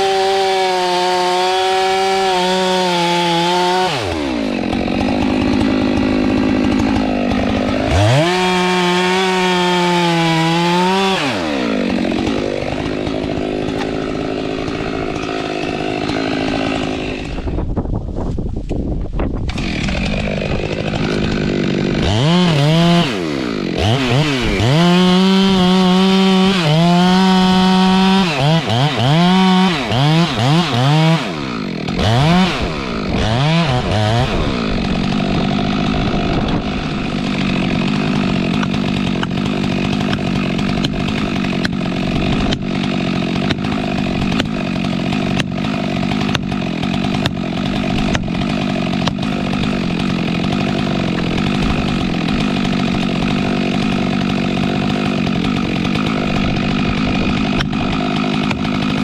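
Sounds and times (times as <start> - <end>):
chainsaw revving: 0.0 - 17.7, 19.5 - 59.0.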